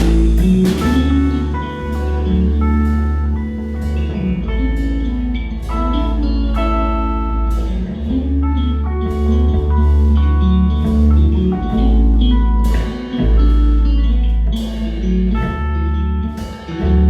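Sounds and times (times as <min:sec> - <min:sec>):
band music: 0:00.0 - 0:17.0
drums: 0:00.0 - 0:17.0
guitar: 0:00.0 - 0:17.0
heavy bass line: 0:00.0 - 0:17.0
high held notes ringing: 0:00.0 - 0:17.0.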